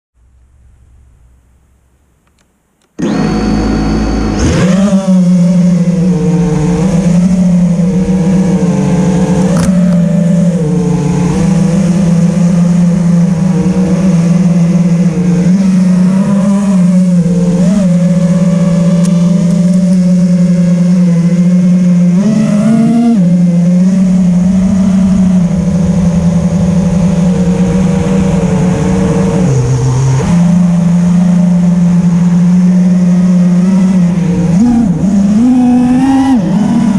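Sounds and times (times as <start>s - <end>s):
quadcopter motors humming: 2.9s - 36.9s.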